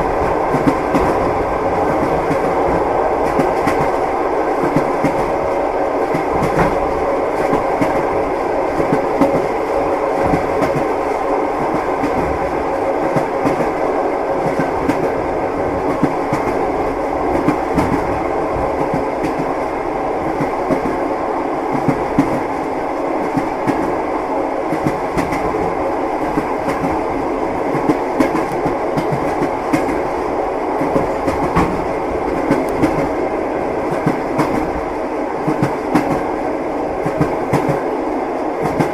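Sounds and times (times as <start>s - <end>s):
train wheels clickety-clack: 0.0s - 21.0s, 21.7s - 24.0s, 24.7s - 33.2s, 33.8s - 36.3s, 37.0s - 38.9s
train carriage rumble: 0.0s - 38.9s.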